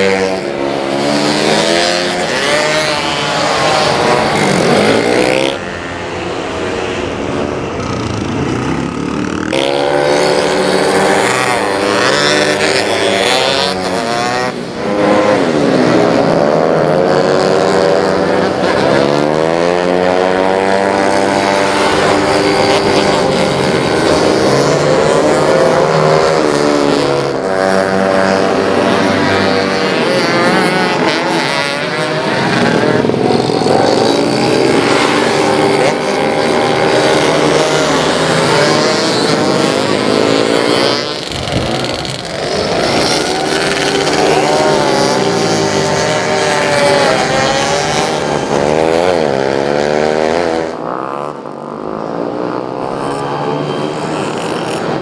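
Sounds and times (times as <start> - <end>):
scooter engines revving: 0.0 - 55.0.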